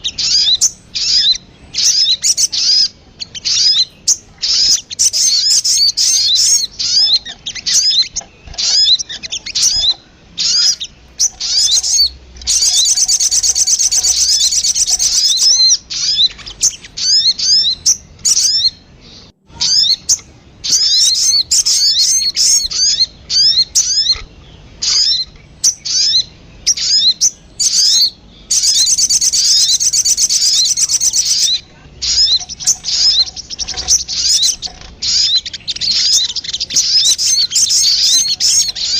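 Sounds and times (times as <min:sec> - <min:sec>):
sunbird chirping: 0:00.0 - 0:38.9.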